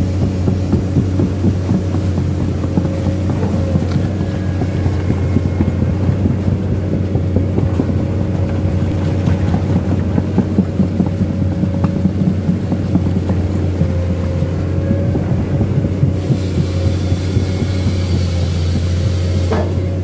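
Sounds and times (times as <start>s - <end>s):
excavator diesel engine droning: 0.0s - 20.0s
steel tracks clattering: 0.0s - 20.0s.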